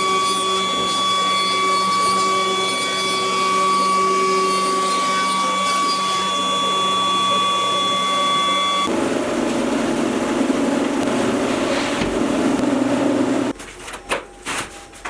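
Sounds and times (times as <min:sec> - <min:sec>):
power tool high whine: 0:00.0 - 0:13.5
tool cutting wood: 0:00.0 - 0:13.5.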